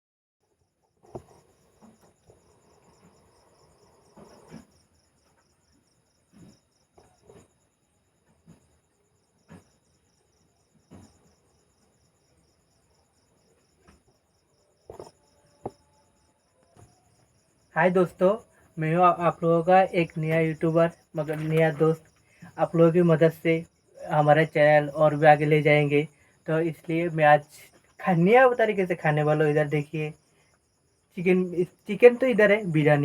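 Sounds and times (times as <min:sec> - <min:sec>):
crickets chirping: 0:00.4 - 0:33.0.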